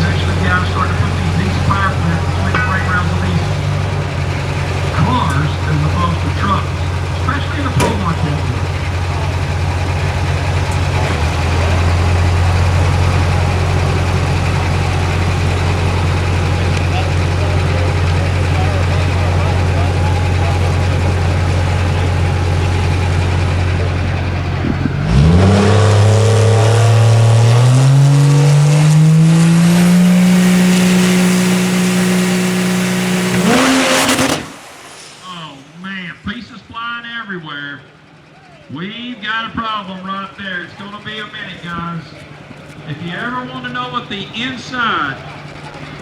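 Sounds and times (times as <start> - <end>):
heavy vehicle engine idling: 0.0 - 46.0.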